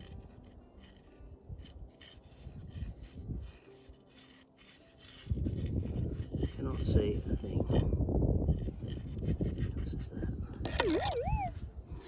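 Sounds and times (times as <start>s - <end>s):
dirt and stones scraping: 0.0s - 11.5s.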